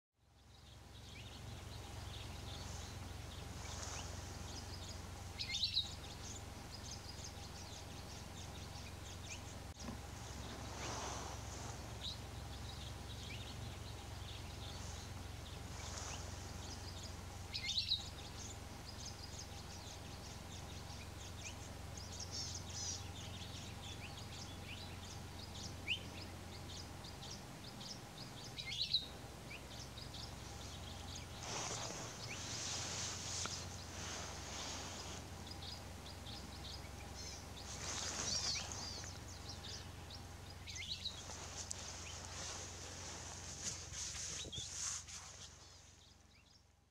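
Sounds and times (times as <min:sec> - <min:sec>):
low background rumble: 0:00.2 - 0:46.9
birds chirping: 0:00.3 - 0:46.9.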